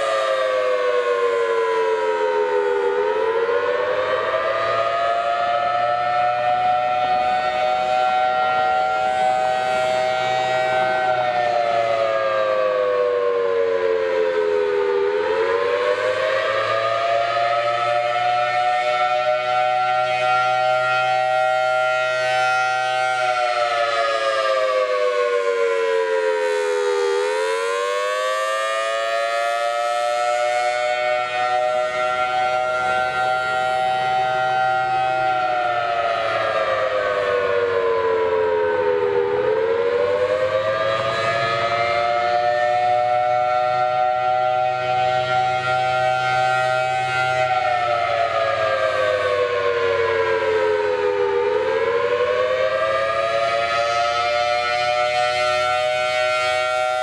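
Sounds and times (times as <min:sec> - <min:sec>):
civil defense siren rising and falling: 0:00.0 - 0:57.0.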